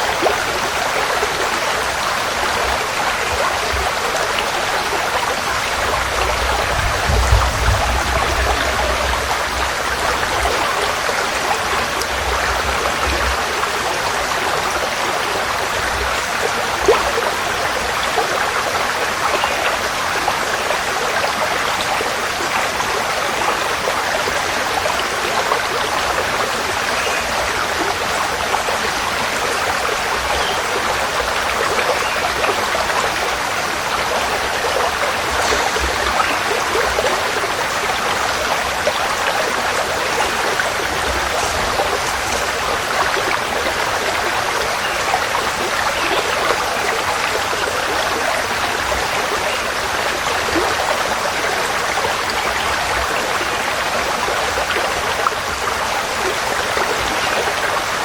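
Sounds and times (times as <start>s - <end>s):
forest stream flowing: 0.0s - 58.0s.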